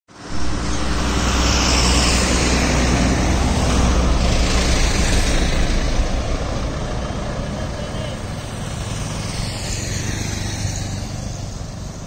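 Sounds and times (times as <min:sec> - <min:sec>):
diesel engine drone: 0:00.1 - 0:12.0
tyre and road hiss: 0:00.1 - 0:12.0.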